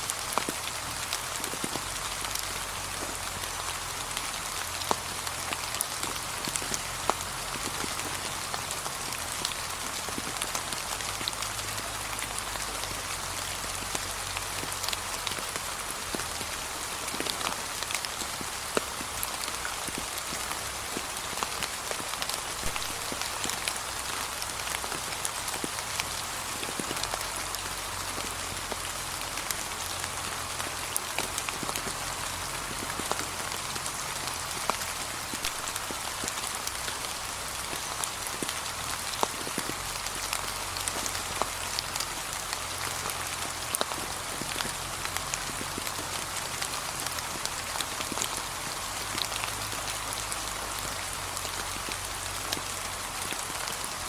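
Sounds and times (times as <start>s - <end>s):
gentle rain pattering: 0.0s - 54.0s.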